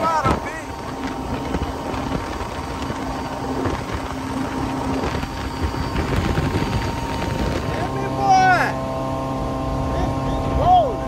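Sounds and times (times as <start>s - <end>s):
rushing noise: 0.0s - 8.9s
outboard motor running: 0.0s - 11.0s.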